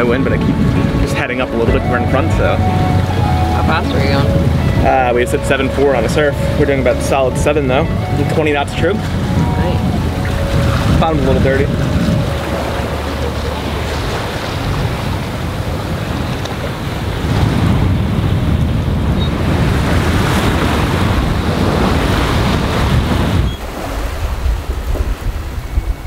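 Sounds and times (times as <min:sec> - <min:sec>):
water rushing along boat hull: 0:00.0 - 0:26.0
wind buffeting microphone: 0:00.0 - 0:26.0.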